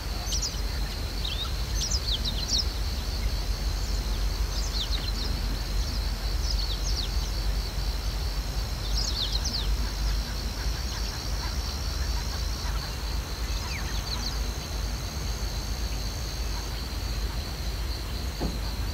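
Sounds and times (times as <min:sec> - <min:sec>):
insects trilling: 0:00.0 - 0:18.9
steady low rumble: 0:00.0 - 0:18.9.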